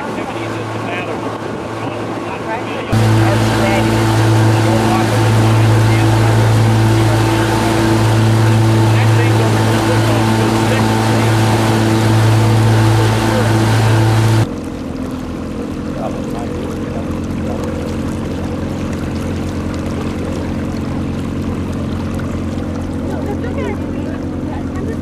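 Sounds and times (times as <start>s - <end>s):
boat engine running: 0.0s - 25.0s
water noise: 0.0s - 25.0s.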